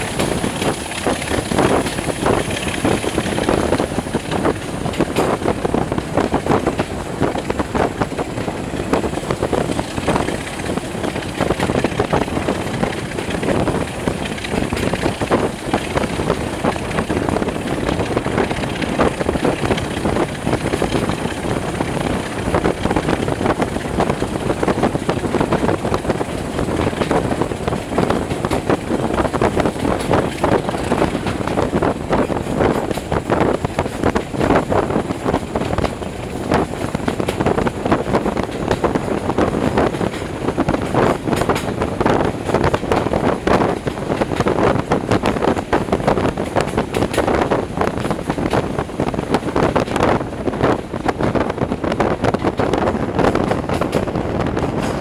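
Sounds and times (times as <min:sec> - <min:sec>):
train wheel and rail noise: 0:00.0 - 0:55.0
wind buffeting microphone: 0:00.0 - 0:55.0.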